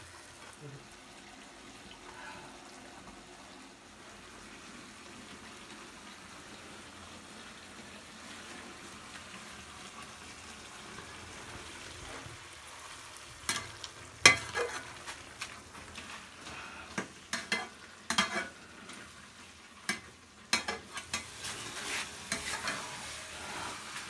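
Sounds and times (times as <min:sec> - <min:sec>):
curry sizzling in a pan: 0:00.0 - 0:24.0.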